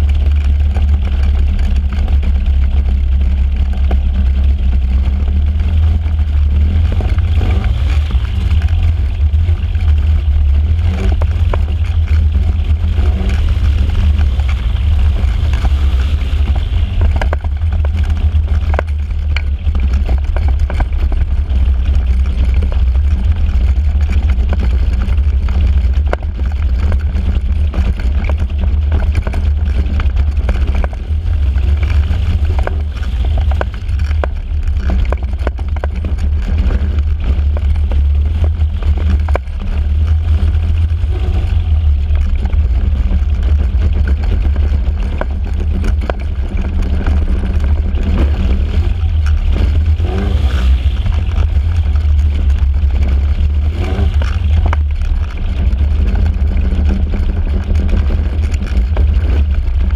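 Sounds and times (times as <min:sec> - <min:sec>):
microlight engine droning rough: 0:00.0 - 0:59.9.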